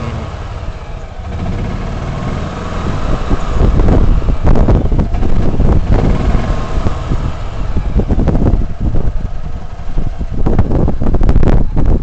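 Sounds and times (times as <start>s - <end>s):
engine low rumble: 0.0s - 12.0s.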